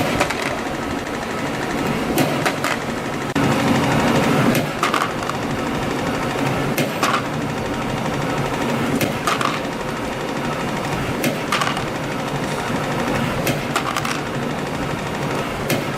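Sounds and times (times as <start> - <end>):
sharp machine clicks: 0.0 - 15.9
spring coiling machine running: 0.0 - 15.9.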